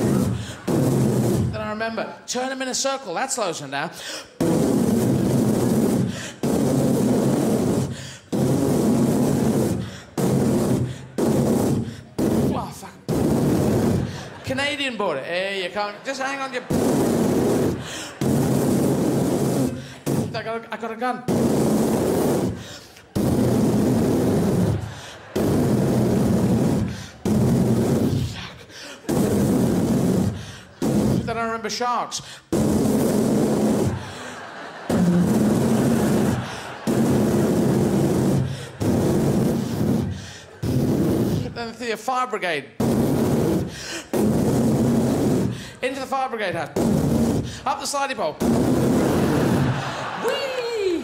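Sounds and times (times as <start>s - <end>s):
person imitating gunshots: 0.0s - 1.8s, 4.4s - 14.5s, 16.6s - 20.6s, 21.2s - 31.7s, 32.4s - 41.7s, 42.8s - 51.0s.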